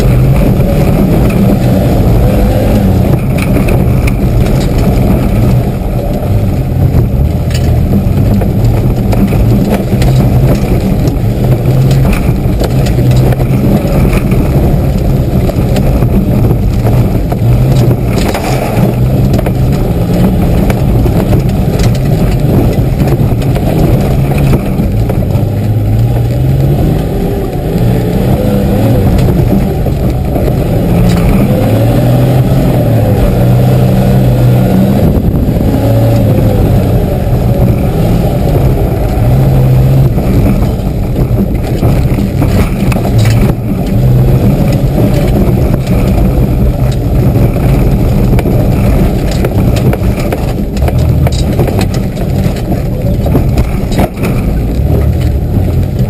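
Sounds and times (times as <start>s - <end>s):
body knocks and rattles: 0.0s - 56.0s
engine revving from inside cab: 0.0s - 56.0s.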